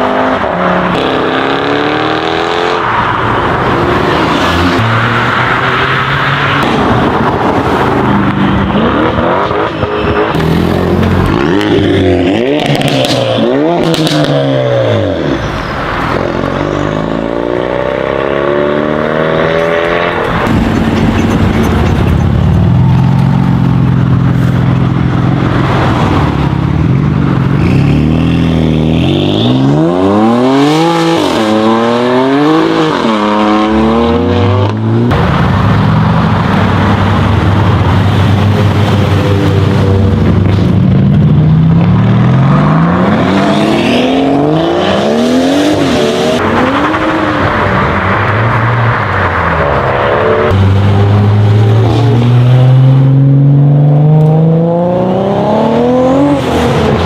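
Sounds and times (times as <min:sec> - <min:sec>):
sports car engines revving: 0:00.0 - 0:57.0.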